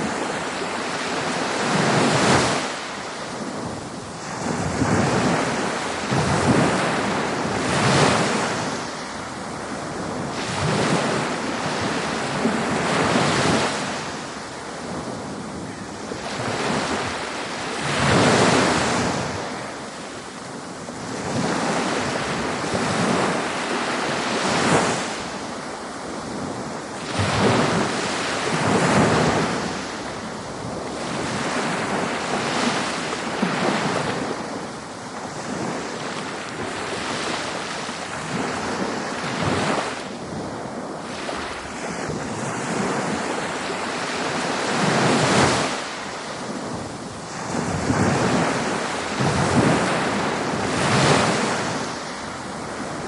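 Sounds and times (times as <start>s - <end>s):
ocean surf breaking on beach: 0.0s - 53.0s.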